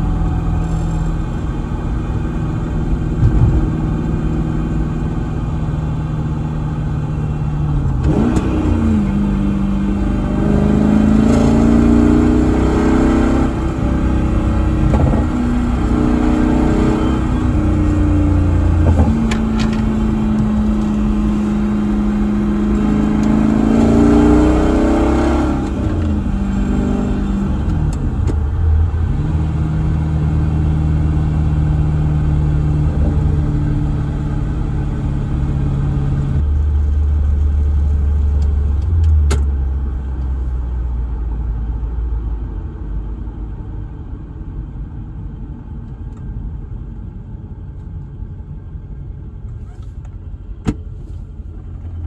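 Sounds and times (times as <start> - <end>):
car engine and exhaust revving: 0.0 - 52.0.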